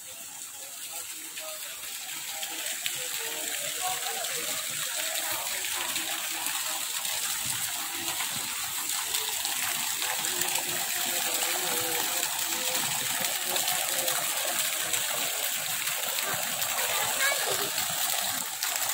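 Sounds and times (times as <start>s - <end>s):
fountain water splashing on pond: 0.0s - 18.9s.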